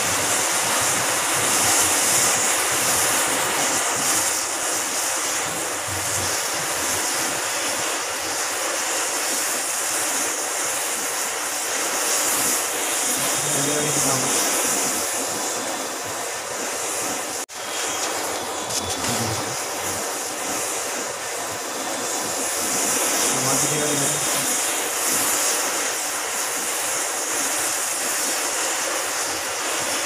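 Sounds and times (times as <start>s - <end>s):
flames hissing: 0.0s - 30.0s.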